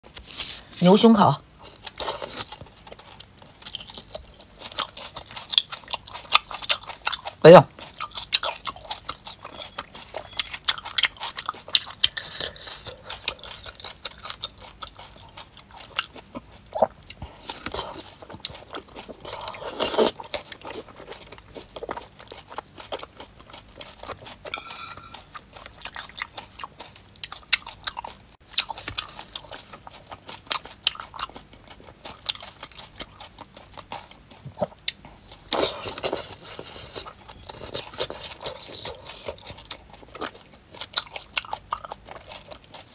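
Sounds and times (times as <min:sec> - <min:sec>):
crunchy biting and chewing: 0:01.6 - 0:42.9.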